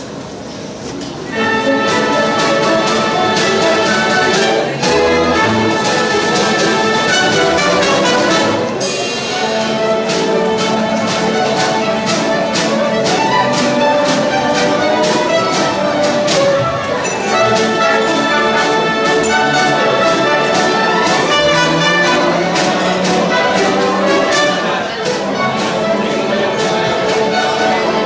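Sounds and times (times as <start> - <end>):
orchestra playing: 1.2 - 28.0.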